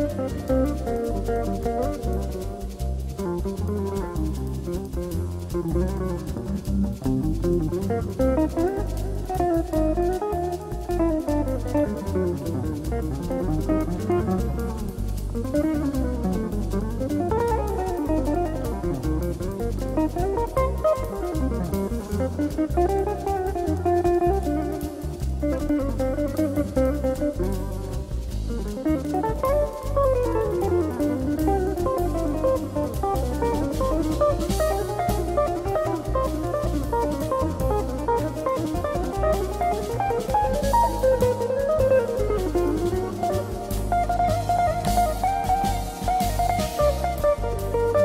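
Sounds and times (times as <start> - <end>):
drum kit groove: 0.0 - 48.0
guitar melody: 0.0 - 48.0.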